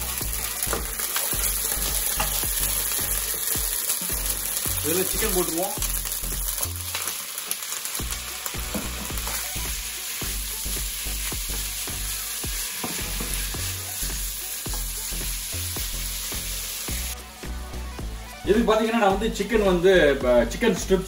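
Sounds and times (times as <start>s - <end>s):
chicken sizzling in oil: 0.0s - 17.4s.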